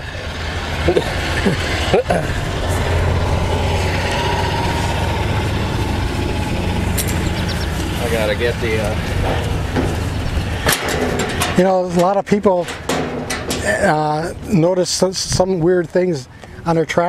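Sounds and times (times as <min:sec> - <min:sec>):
engine idling: 0:00.0 - 0:14.4.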